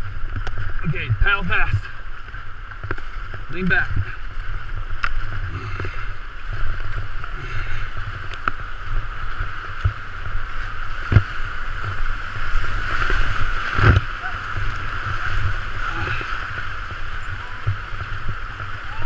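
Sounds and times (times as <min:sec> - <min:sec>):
rushing whitewater: 0:03.4 - 0:19.0.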